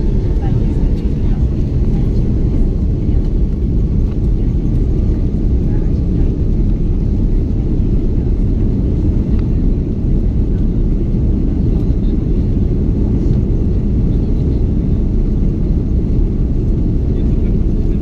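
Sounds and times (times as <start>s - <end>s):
aircraft cabin engine rumble: 0.0s - 18.0s.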